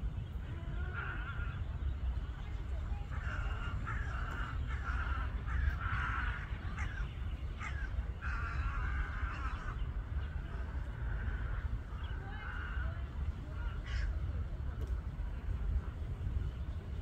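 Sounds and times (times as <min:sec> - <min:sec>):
birds calling overhead: 0:00.0 - 0:17.0
steady low rumble: 0:00.0 - 0:17.0.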